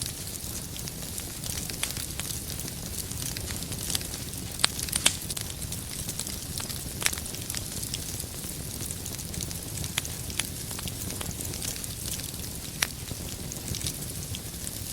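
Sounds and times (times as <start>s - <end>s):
fire rumbling: 0.0s - 14.9s
firewood crackling and popping: 0.0s - 14.9s.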